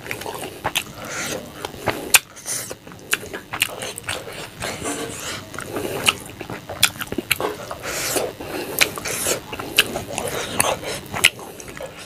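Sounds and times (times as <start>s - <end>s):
chewing and mouth smacks: 0.0s - 1.0s, 1.6s - 4.8s, 5.5s - 7.8s, 8.8s - 12.0s.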